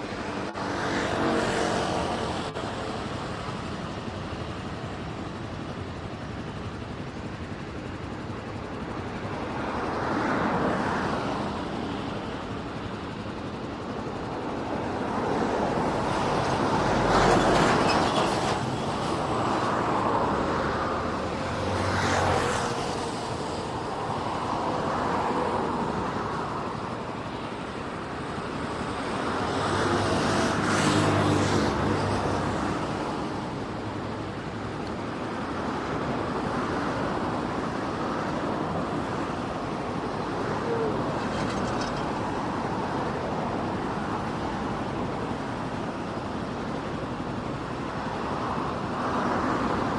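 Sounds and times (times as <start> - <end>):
jet engines at takeoff power: 0.0 - 49.9.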